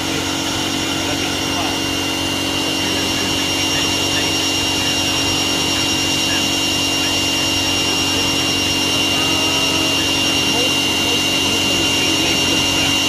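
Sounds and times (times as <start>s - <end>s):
cutter milling metal: 0.0s - 13.0s
router spindle whining: 0.0s - 13.0s.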